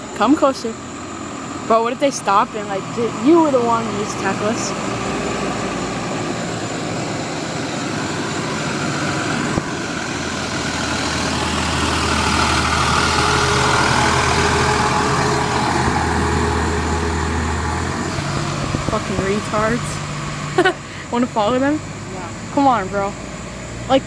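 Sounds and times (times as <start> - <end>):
fire truck engine drone: 0.0 - 24.0
road noise: 0.0 - 24.0.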